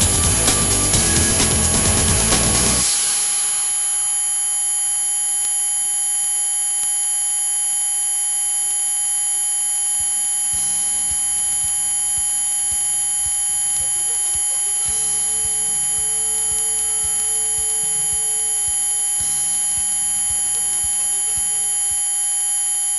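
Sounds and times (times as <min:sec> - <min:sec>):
electronic buzzing whine: 0:00.0 - 0:22.9.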